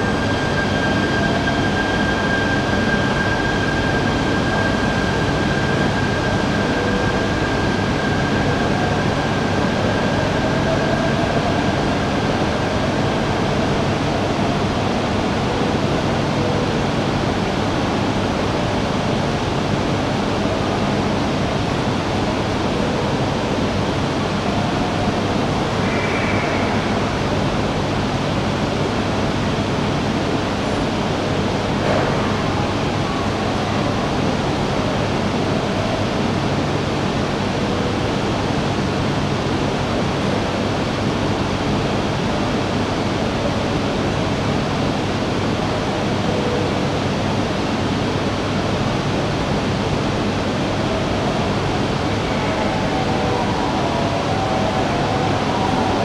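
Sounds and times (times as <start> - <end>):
station platform ambient rushing: 0.0 - 56.0.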